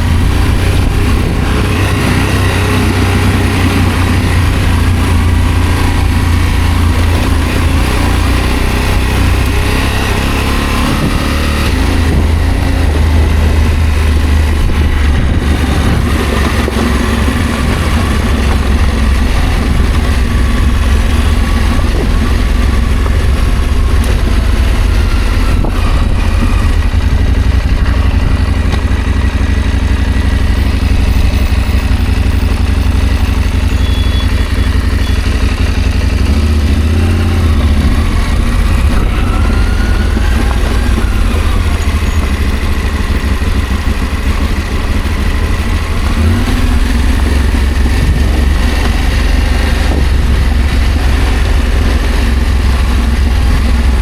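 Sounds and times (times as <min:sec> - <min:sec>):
low rumble: 0:00.0 - 0:54.0
motorcycle engine running: 0:00.0 - 0:54.0.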